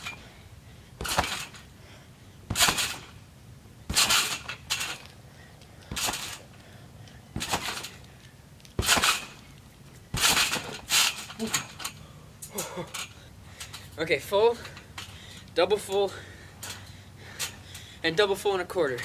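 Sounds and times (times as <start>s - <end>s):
trampoline springs clanking: 0.0s - 0.3s, 1.0s - 1.7s, 2.4s - 3.3s, 3.9s - 5.2s, 5.8s - 6.6s, 7.3s - 19.0s.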